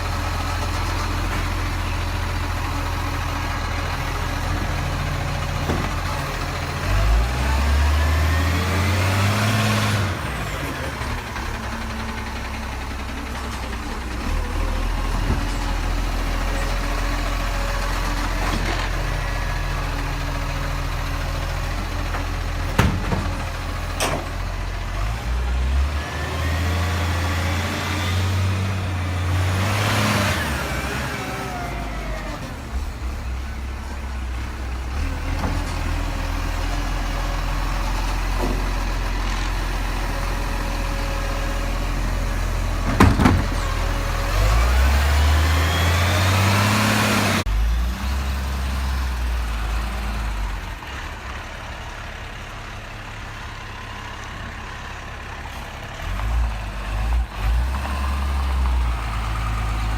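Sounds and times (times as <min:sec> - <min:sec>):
garbage truck engine running: 0:00.0 - 0:59.9.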